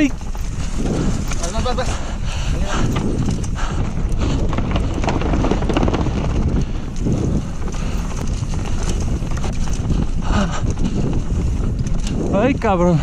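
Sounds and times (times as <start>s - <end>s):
bike clattering over bumps: 0.0s - 13.0s
bike rumbling on rough trail: 0.0s - 13.0s
wind buffeting microphone: 0.0s - 13.0s.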